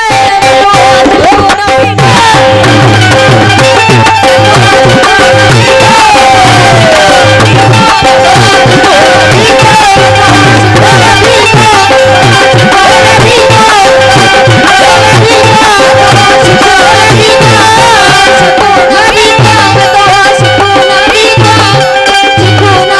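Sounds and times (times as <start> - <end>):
hand drum rhythm: 0.0 - 22.9
harmonium melody: 0.0 - 22.9.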